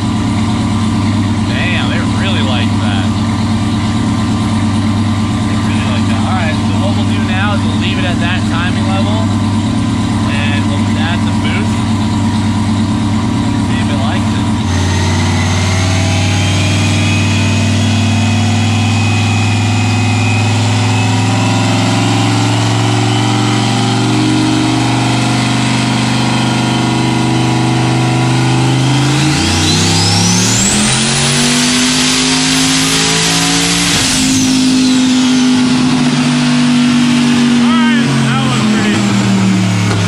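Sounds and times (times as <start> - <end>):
car engine revving on a dyno: 0.0 - 40.0.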